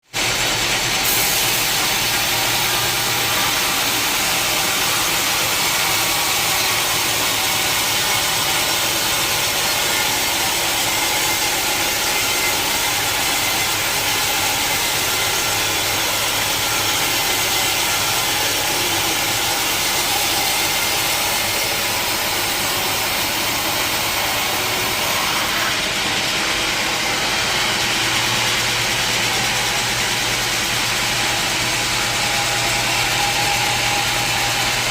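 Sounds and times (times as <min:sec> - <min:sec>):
saw whirring through log: 0:00.2 - 0:34.9.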